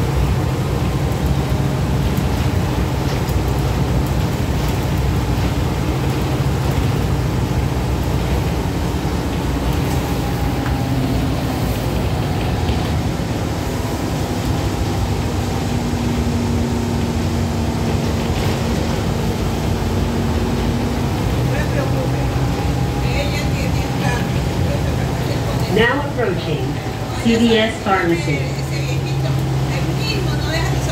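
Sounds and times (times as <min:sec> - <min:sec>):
bus engine drone: 0:00.0 - 0:30.9
road noise: 0:00.0 - 0:30.9.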